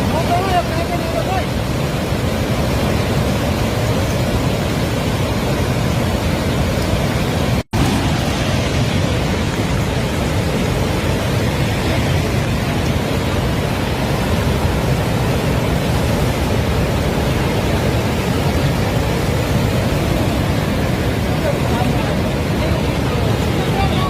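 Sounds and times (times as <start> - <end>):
river floodwater rushing: 0.0 - 24.0.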